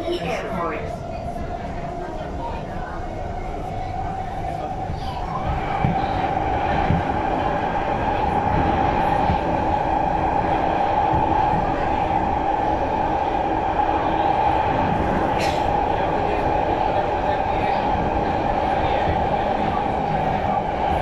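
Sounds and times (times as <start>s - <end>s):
train running in tunnel: 0.0s - 21.0s.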